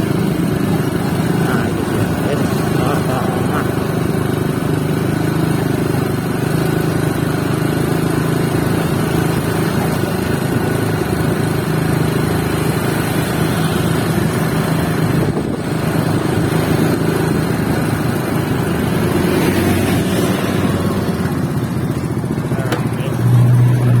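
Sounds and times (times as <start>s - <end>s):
engine drone: 0.0s - 24.0s
street traffic noise: 0.0s - 24.0s.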